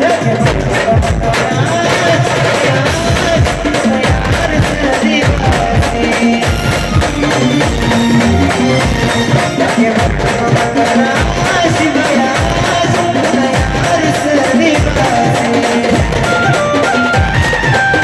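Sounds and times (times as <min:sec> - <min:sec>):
steady drum beat: 0:00.0 - 0:18.0
village band playing folk music: 0:00.0 - 0:18.0.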